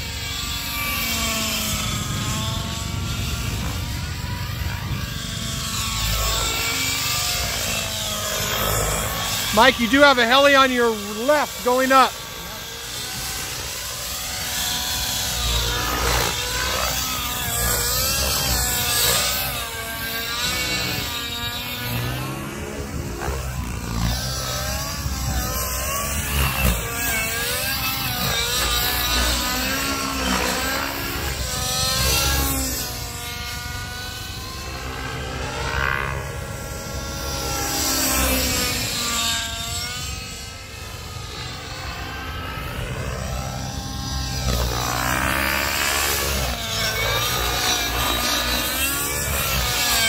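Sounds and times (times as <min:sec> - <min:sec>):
model helicopter rotor whine: 0:00.0 - 0:50.0.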